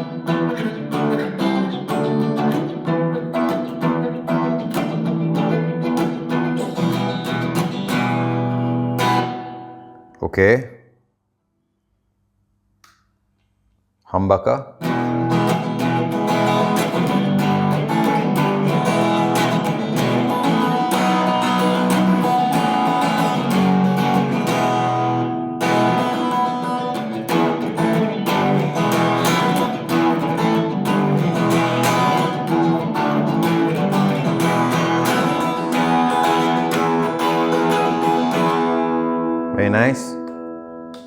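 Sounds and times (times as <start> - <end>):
electric guitar notes and chords: 0.0 - 10.2, 14.8 - 41.0.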